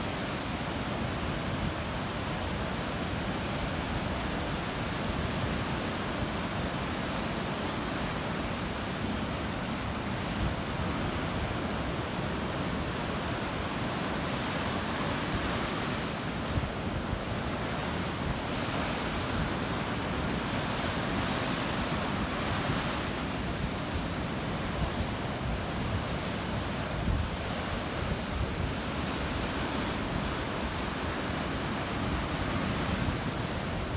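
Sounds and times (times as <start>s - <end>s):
surf washing onto shore: 0.0s - 33.9s.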